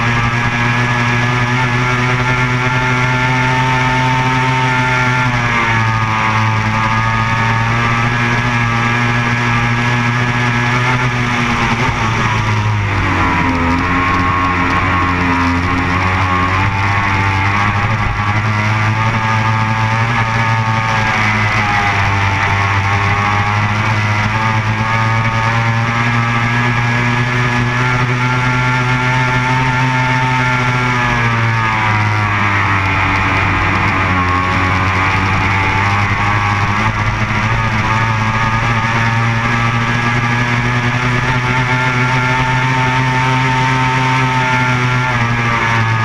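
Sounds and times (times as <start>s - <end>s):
powerboat engine running: 0.0s - 46.0s
rock music with electric guitar: 0.0s - 46.0s.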